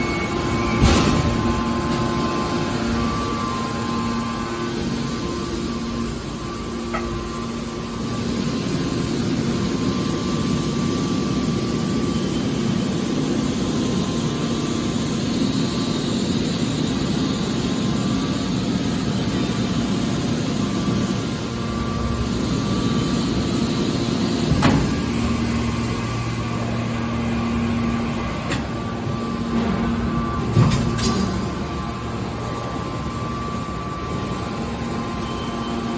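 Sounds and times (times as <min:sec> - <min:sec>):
hydraulic power unit droning: 0:00.0 - 0:35.9.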